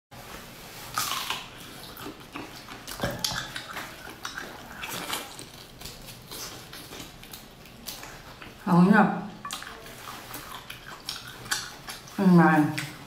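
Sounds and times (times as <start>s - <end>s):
chewing: 0.8s - 8.7s, 9.3s - 13.0s.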